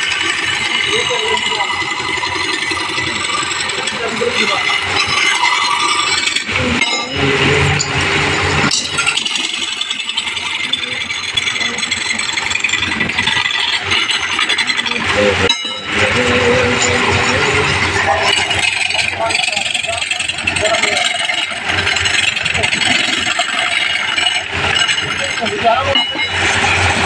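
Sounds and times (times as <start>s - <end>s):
chisel scraping spinning wood: 0.0s - 27.0s
lathe motor hum: 0.0s - 27.0s.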